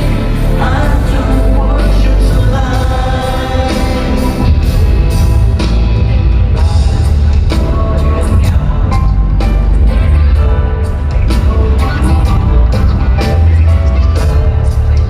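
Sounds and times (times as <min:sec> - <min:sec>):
live rock-pop band with singing: 0:00.0 - 0:15.0.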